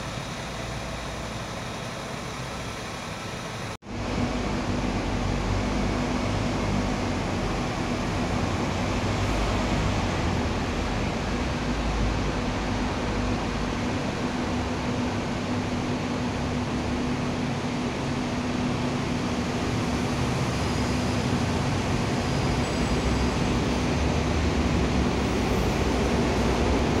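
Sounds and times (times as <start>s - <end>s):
bus engines rumbling: 0.0s - 27.0s
traffic noise: 0.0s - 27.0s.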